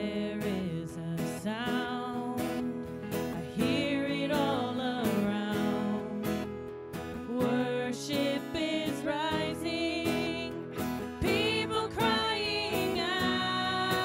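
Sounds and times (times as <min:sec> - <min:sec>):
women singing: 0:00.0 - 0:06.6, 0:07.2 - 0:14.0
acoustic guitar: 0:00.0 - 0:14.0
keyboard: 0:00.0 - 0:14.0.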